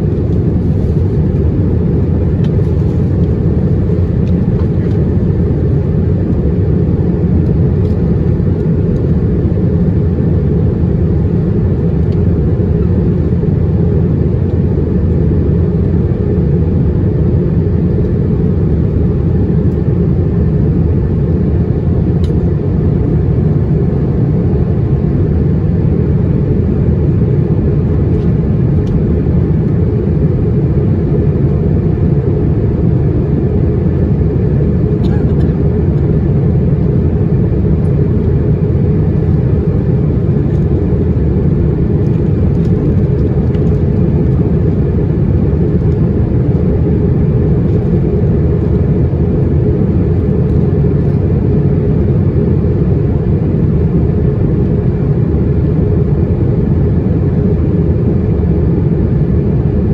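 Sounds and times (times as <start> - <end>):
airliner cabin engine roar: 0.0 - 59.9.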